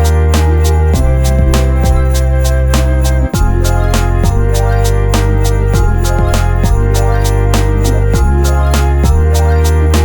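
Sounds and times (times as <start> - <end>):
sustained bass notes: 0.0 - 10.0.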